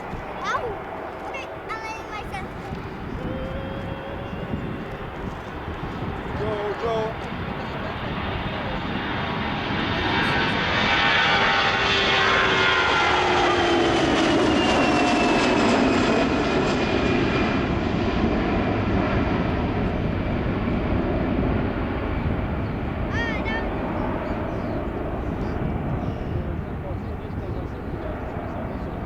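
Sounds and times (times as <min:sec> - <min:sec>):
jet engines passing: 0:00.0 - 0:29.0.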